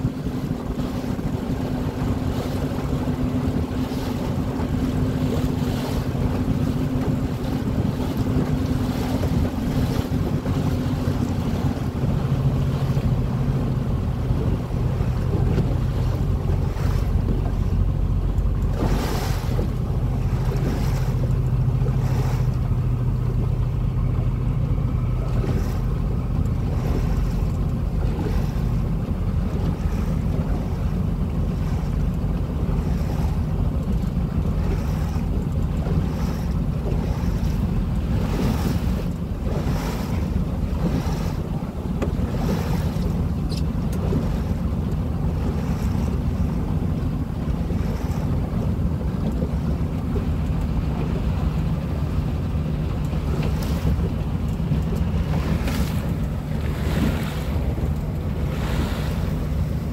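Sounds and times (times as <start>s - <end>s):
spray and bow splash: 0.0s - 22.7s, 25.1s - 59.9s
boat engine droning: 0.0s - 59.9s
wind buffeting microphone: 0.0s - 59.9s.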